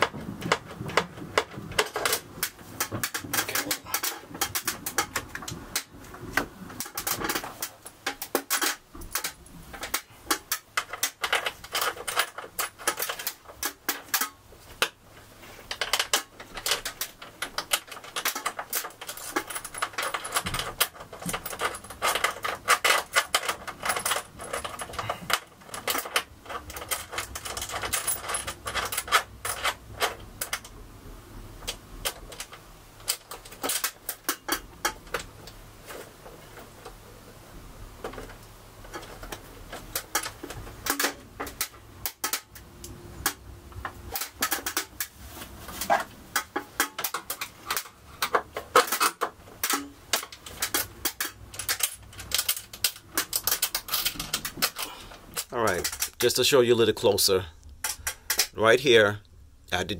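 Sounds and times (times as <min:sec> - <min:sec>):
wires clicking and rattling in metal panel: 0:00.0 - 0:59.1.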